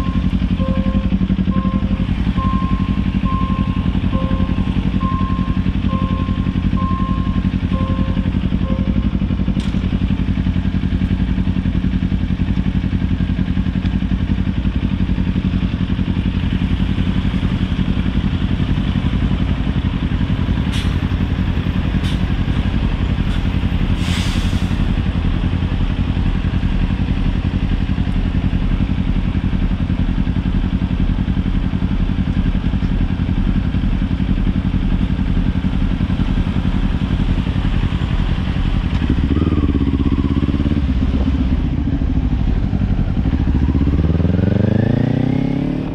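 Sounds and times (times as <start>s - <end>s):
motorcycle engine running: 0.0s - 23.9s, 24.9s - 45.9s.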